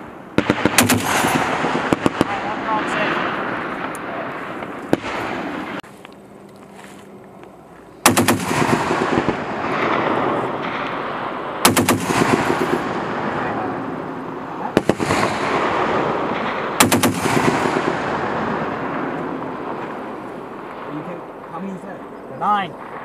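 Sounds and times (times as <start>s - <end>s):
rolling echo of gunfire: 0.0s - 5.8s, 8.0s - 22.1s.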